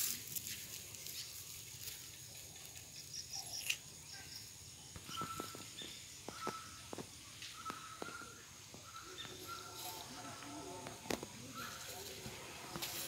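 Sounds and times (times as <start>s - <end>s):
high insect drone: 0.1s - 13.0s.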